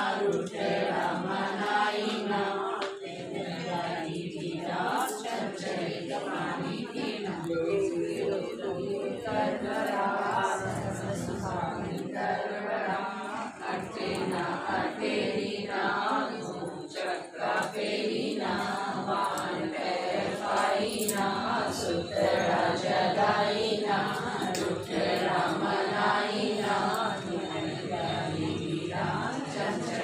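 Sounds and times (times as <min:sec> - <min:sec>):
women singing in unison: 0:00.0 - 0:30.0.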